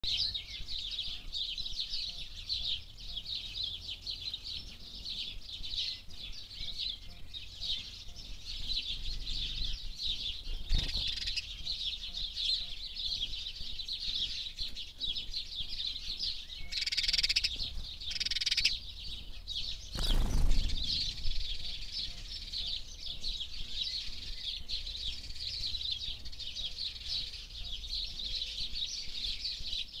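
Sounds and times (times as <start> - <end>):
high-pitched bird chirping: 0.0 - 30.0.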